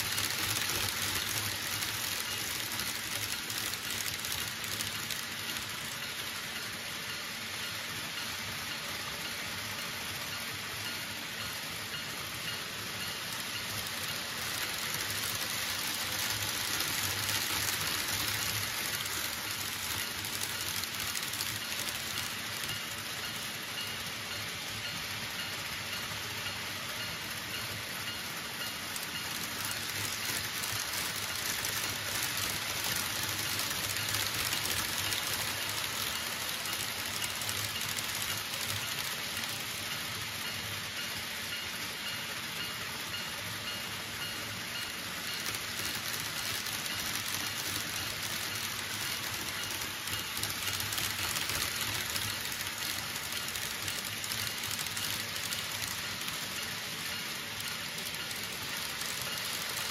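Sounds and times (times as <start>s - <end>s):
model trains whirring on rails: 0.0s - 59.9s.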